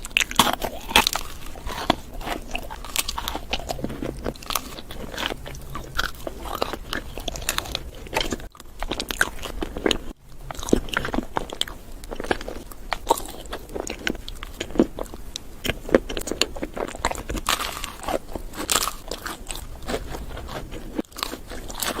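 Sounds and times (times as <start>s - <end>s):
crunchy chewing of food: 0.0s - 22.0s.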